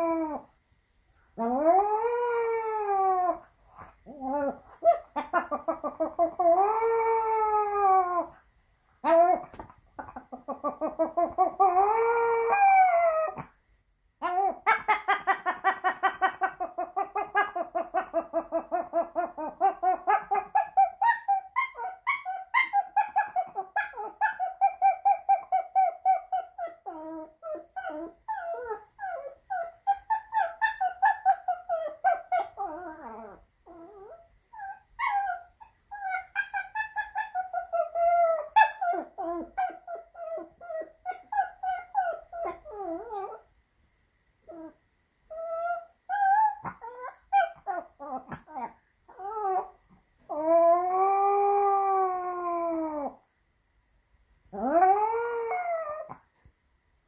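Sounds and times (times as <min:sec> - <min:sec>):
dog howling with yipping whimpers: 0:00.0 - 0:00.5, 0:01.4 - 0:03.5, 0:04.1 - 0:08.4, 0:09.0 - 0:13.5, 0:14.2 - 0:43.5, 0:44.5 - 0:53.2, 0:54.5 - 0:56.2.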